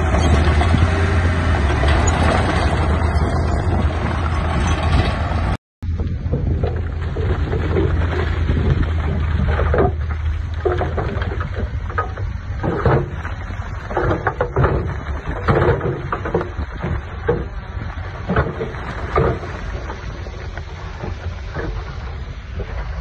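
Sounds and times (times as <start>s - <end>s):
stone and dirt clattering: 0.0s - 22.3s
diesel machinery engine drone: 0.0s - 23.0s.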